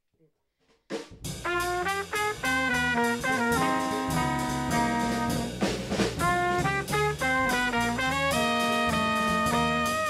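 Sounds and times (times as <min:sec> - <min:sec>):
drums: 0:00.6 - 0:10.0
bass: 0:00.9 - 0:10.0
saxophone melody: 0:01.5 - 0:10.0.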